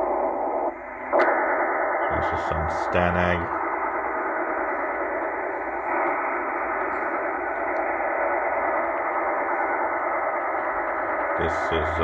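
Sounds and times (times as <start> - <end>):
data modem hiss: 0.0 - 12.0.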